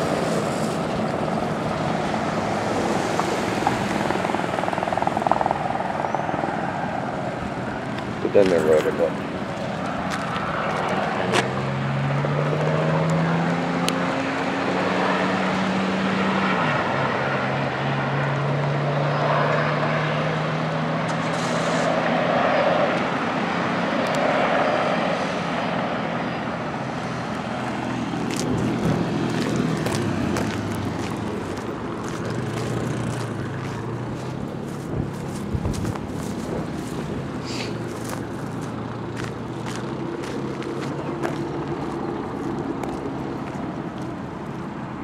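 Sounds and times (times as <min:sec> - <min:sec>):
aircraft engine drone: 0:00.0 - 0:12.2, 0:14.3 - 0:45.0.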